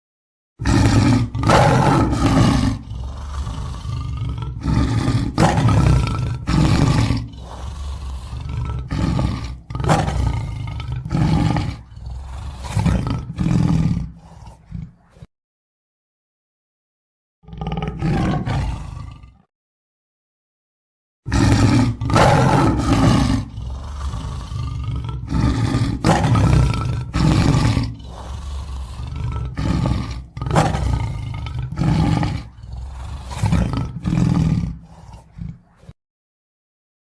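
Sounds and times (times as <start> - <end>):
lion roaring and grunting: 0.6 - 15.3, 17.4 - 19.5, 21.3 - 36.0.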